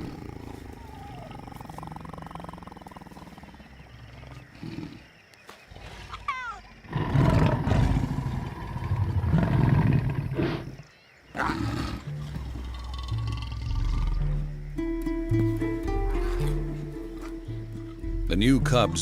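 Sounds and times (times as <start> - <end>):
lion growling: 0.0 - 14.6, 15.4 - 18.3.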